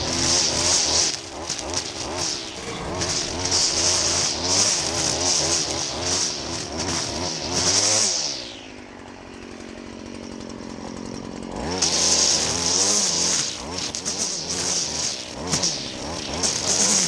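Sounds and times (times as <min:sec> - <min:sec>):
string trimmer engine revving: 0:00.0 - 0:17.0
trimmer line hissing through grass: 0:00.0 - 0:17.0.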